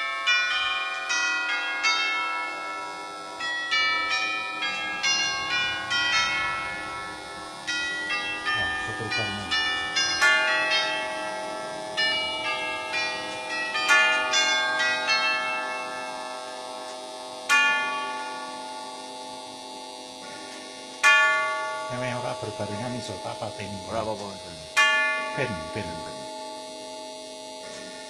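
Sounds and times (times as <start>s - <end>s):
clock chime on tubular bells: 0.0s - 28.0s.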